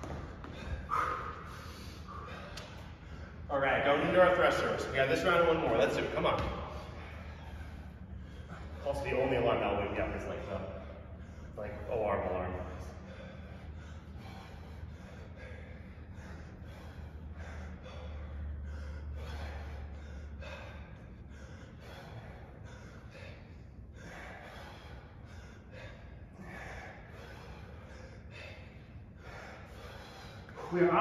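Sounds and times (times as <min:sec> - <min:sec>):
heavy rhythmic breathing: 0:00.0 - 0:31.0
low hum: 0:00.0 - 0:31.0.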